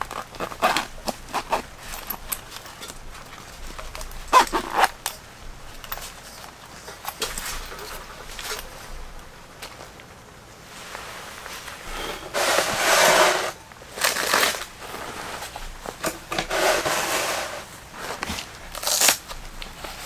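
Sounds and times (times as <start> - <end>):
rustling and crinkling of gear: 0.0 - 20.0.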